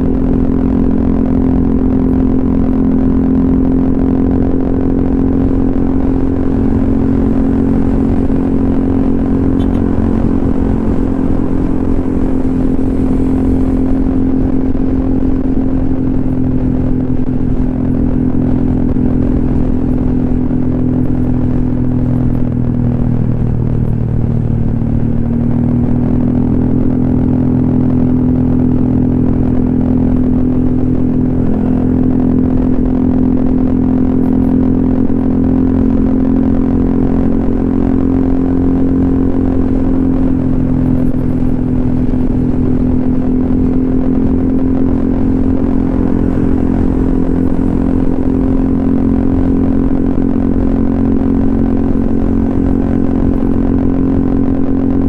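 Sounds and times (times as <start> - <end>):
scooter engine cruising: 0.0 - 55.0.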